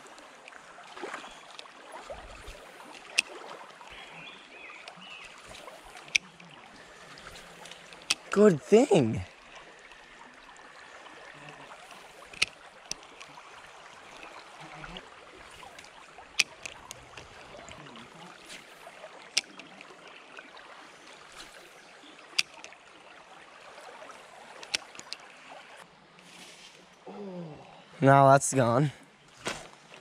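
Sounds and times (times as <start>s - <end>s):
stream running over riffles: 0.0s - 30.0s.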